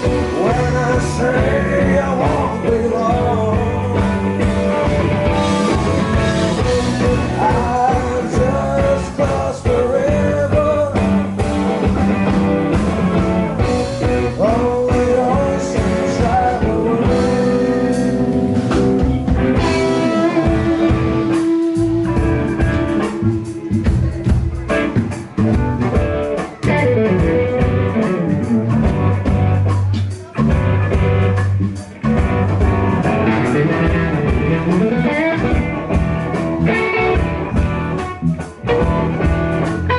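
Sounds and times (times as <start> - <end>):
bass guitar: 0.0 - 39.9
drums: 0.0 - 39.9
electric guitars bending notes: 0.0 - 39.9.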